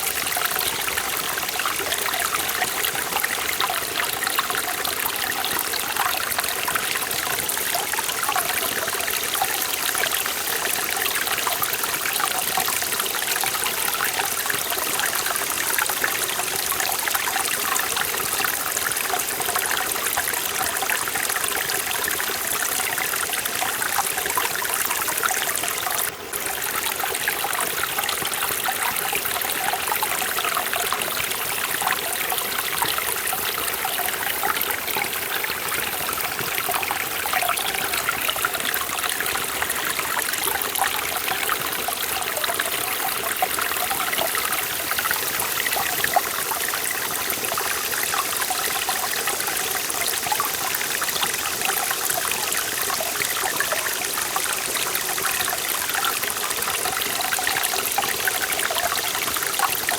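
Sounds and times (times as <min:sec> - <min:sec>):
stream flowing: 0:00.0 - 0:59.9.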